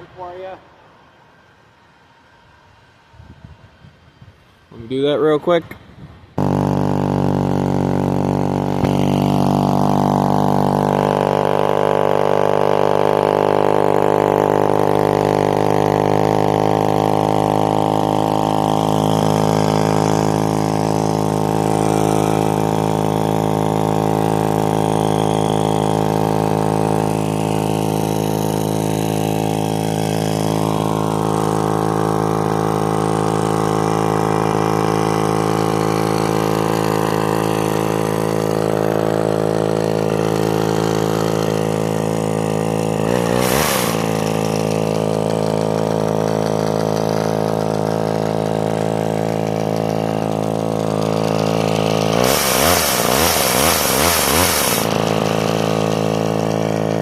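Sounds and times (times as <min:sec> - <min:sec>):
chainsaw engine idling: 0:06.4 - 0:57.0.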